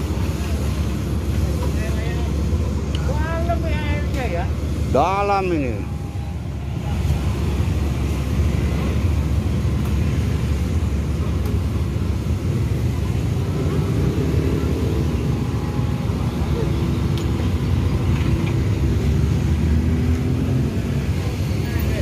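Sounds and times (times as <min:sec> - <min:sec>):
excavator diesel engine rumbling: 0:00.0 - 0:22.0.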